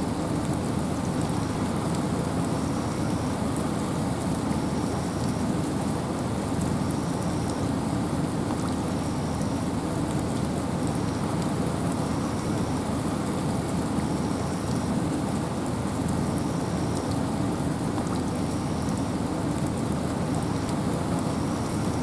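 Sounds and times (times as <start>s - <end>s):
rain: 0.0s - 22.0s
wind in a forest: 0.0s - 22.0s.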